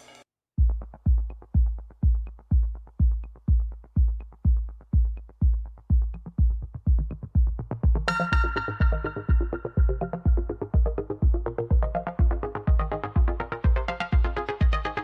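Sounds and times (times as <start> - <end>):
deep kick drum: 0.6 - 15.0
electronic music: 0.7 - 15.0.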